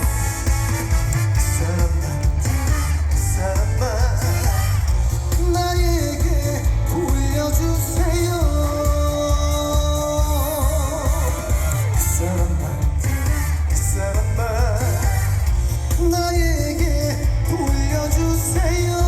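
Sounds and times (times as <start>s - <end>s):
band backing track with bass and drums: 0.0s - 19.0s
man singing with vibrato: 0.0s - 19.0s.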